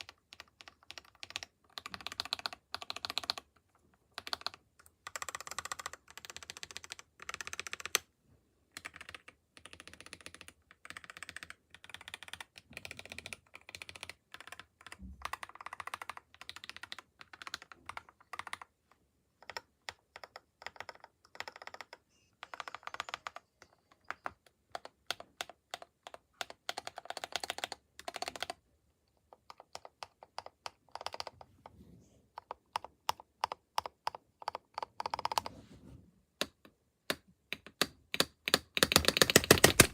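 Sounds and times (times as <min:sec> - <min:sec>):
mechanical keyboard typing: 0:00.0 - 0:08.1, 0:08.7 - 0:31.5, 0:32.3 - 0:35.6, 0:36.4 - 0:39.9.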